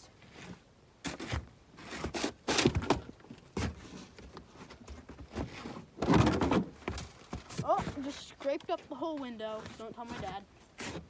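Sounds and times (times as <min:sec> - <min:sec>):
objects scraping in truck bed: 0:00.2 - 0:08.6, 0:09.5 - 0:11.0.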